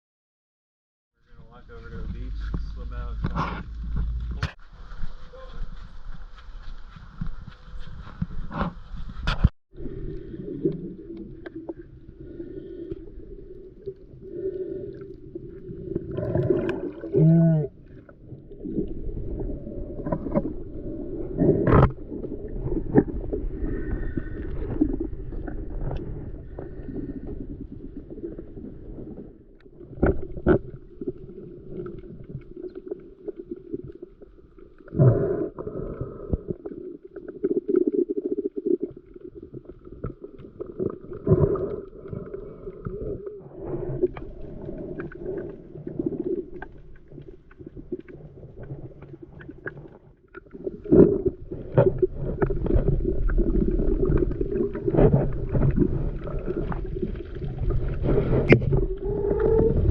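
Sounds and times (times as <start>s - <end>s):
muffled water sloshing: 1.3s - 59.9s.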